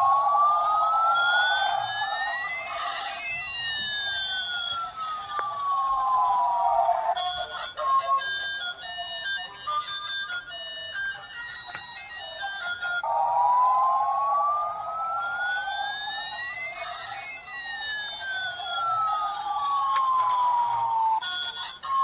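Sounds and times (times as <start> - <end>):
electronic toy siren tones: 0.0 - 22.0.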